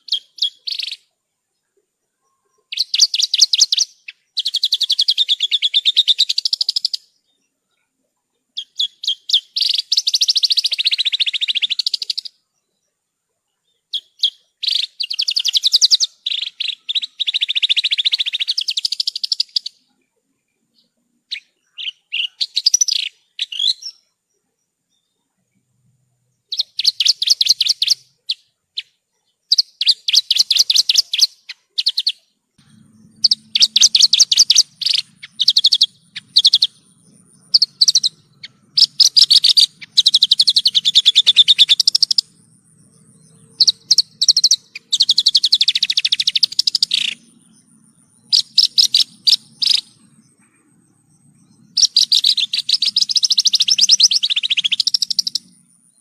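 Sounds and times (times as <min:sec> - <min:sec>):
lark singing rapid chattering: 0:00.0 - 0:01.0, 0:02.7 - 0:07.1, 0:08.6 - 0:12.3, 0:13.9 - 0:19.8, 0:21.3 - 0:24.0, 0:26.5 - 0:28.9, 0:29.5 - 0:56.0.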